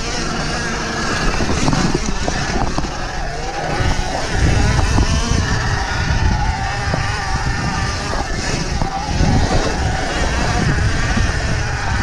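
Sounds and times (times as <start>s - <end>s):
electric motor whine: 0.0s - 12.0s
wind buffeting microphone: 0.0s - 12.0s.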